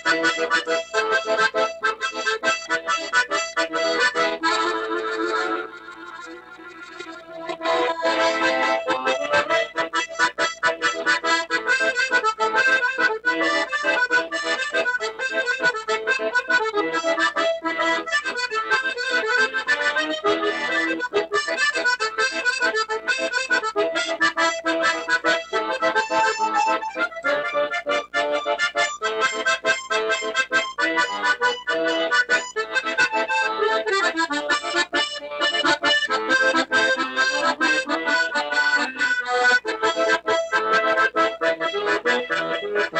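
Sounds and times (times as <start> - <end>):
accordion playing lively tune: 0.0 - 42.9.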